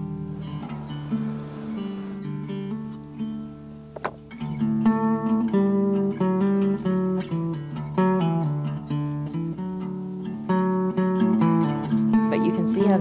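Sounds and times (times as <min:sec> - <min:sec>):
acoustic guitar picked tune: 0:00.0 - 0:13.0.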